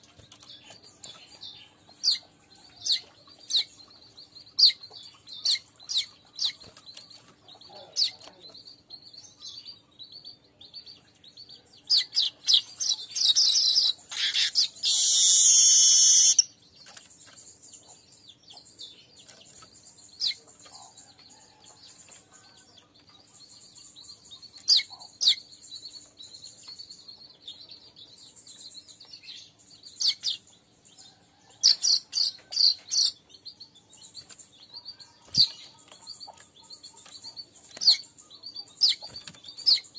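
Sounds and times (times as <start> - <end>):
harsh chattering bird song: 0.0 - 39.9
weaver birds chirping: 0.0 - 39.9.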